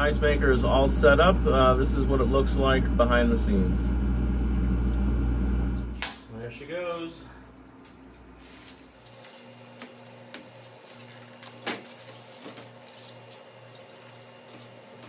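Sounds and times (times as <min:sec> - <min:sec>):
ice maker pulsing hum: 0:00.0 - 0:06.0, 0:06.7 - 0:15.0.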